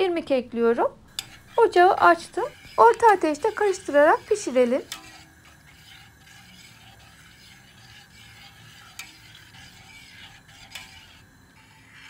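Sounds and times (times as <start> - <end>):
spoon stirring in a pot: 1.0 - 12.0.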